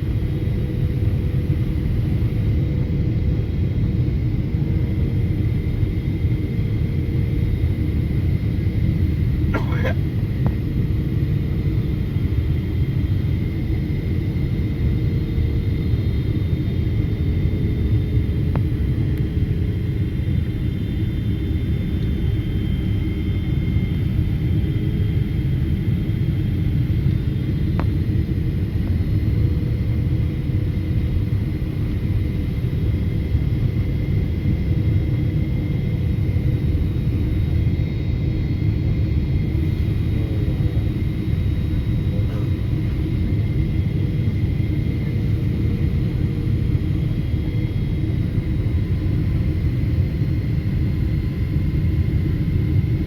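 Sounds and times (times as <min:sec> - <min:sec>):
faint steady whine: 0:00.0 - 0:53.0
jet engines rumbling: 0:00.0 - 0:53.0.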